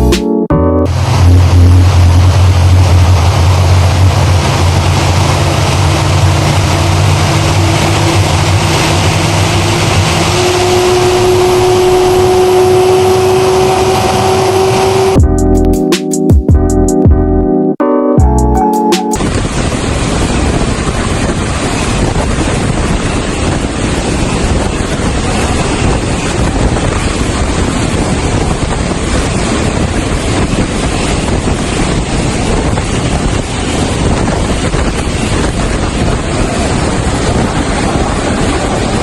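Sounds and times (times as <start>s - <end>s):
wind noise on microphone: 0.9s - 15.5s, 19.2s - 39.0s.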